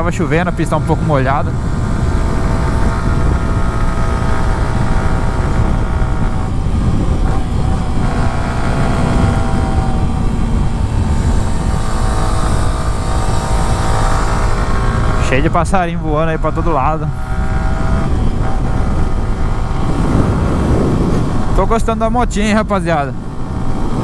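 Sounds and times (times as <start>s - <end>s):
motorcycle engine running: 0.0s - 24.0s
wind rumble on microphone: 0.0s - 24.0s.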